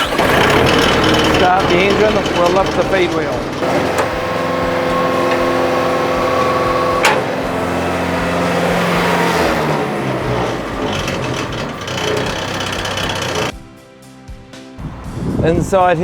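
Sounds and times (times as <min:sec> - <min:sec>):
wood chipper engine running: 0:00.0 - 0:13.5.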